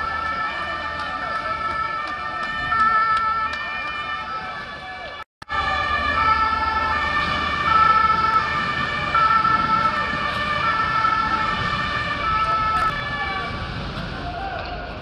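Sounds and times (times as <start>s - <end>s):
two-tone emergency siren: 0.0s - 13.9s.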